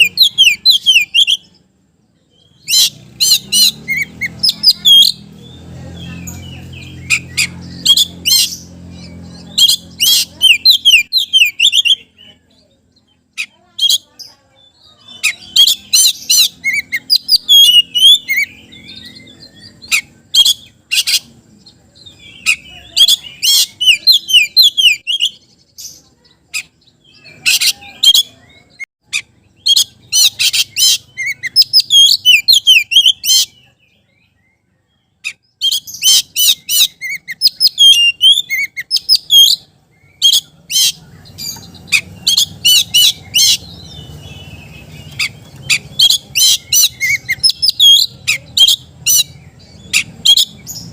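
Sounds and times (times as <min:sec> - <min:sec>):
bird singing whistles and trills: 0:00.0 - 0:21.3, 0:22.0 - 0:25.5, 0:26.1 - 0:50.9.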